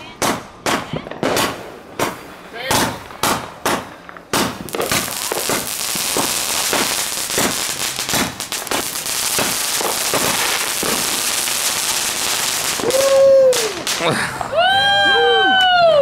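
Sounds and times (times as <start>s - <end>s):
fireworks shots: 0.0s - 14.5s
fireworks crackling: 0.0s - 16.0s.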